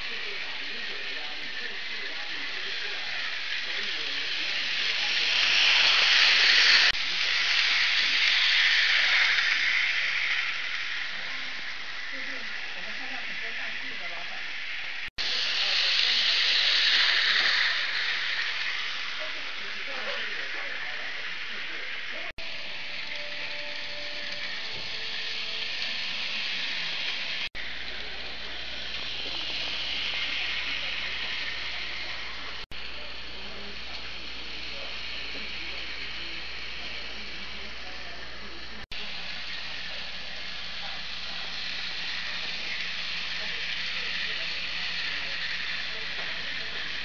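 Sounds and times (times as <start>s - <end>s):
model train whirring on rails: 0.0s - 47.0s.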